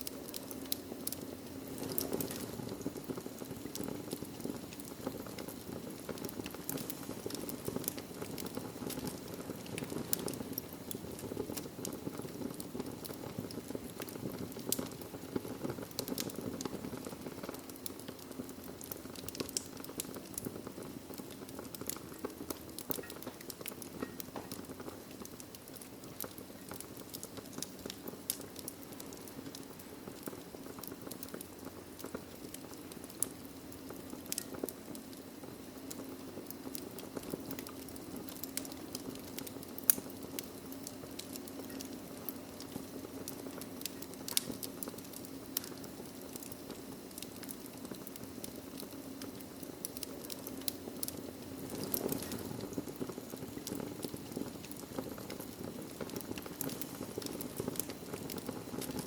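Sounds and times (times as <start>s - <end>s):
fire rumbling: 0.0s - 59.0s
wood fire crackling and popping: 0.0s - 59.0s.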